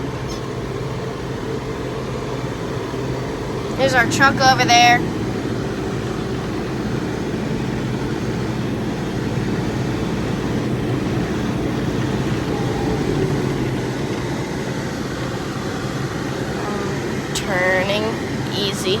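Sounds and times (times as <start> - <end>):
vehicle engine running steadily: 0.0 - 19.0.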